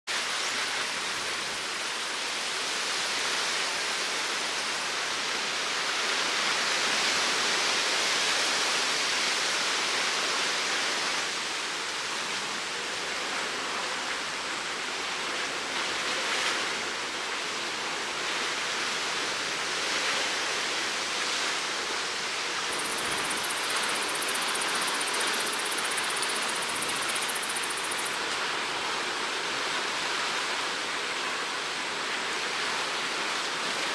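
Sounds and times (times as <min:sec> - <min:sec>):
choppy sea water rushing: 0:00.1 - 0:33.9.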